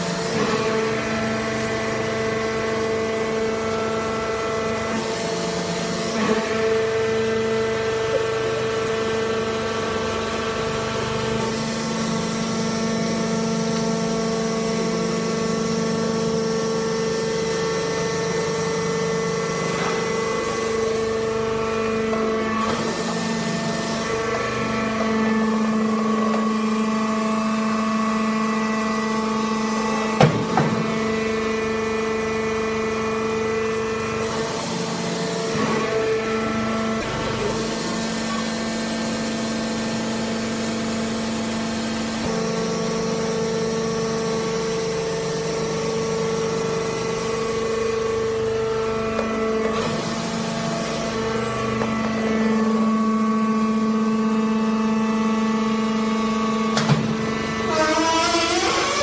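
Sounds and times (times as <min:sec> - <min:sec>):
hydraulic press motor and pump hum: 0:00.0 - 0:59.0.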